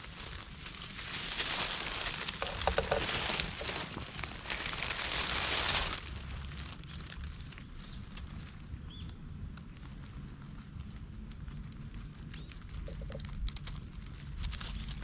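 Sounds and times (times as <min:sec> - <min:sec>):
dry leaves rustling and crackling: 0:00.0 - 0:15.0.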